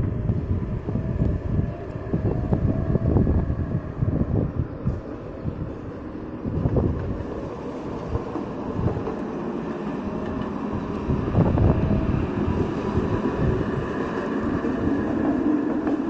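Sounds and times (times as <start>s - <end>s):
tram running on street track: 0.0s - 16.0s.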